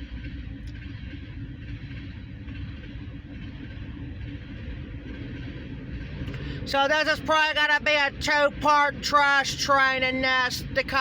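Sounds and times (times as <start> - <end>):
freight train wheels rumbling on track: 0.0 - 11.0.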